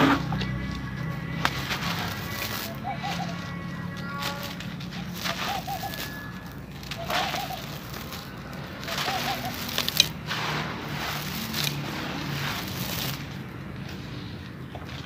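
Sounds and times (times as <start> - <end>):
cement lumps crunching by hand: 0.0 - 15.0
sharp crack: 1.3 - 13.5.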